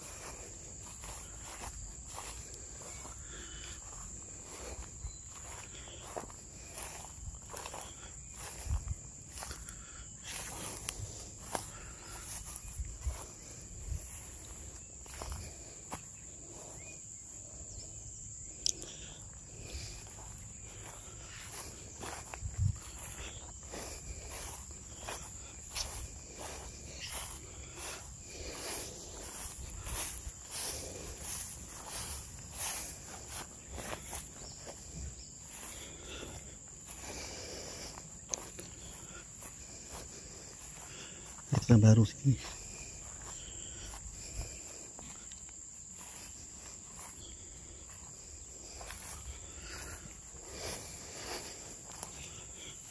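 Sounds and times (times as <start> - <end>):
footsteps: 0.0 - 16.9, 18.6 - 52.9
high-pitched insect drone: 0.0 - 52.9.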